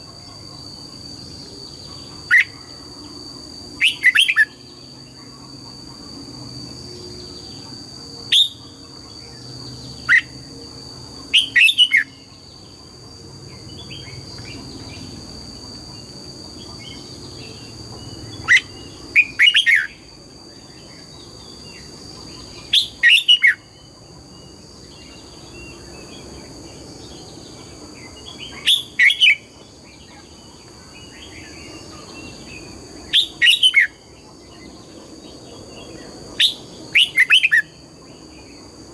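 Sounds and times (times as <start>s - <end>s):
steady high-pitched whine: 0.0s - 38.9s.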